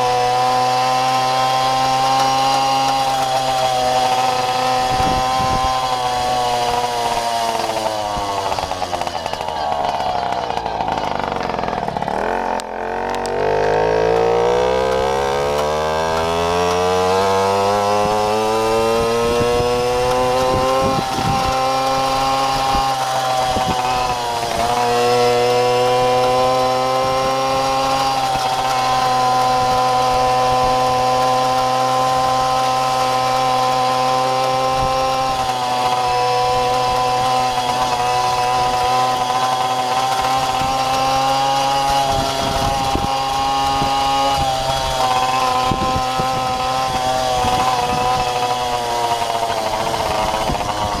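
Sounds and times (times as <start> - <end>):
moped engine running: 0.0 - 51.0.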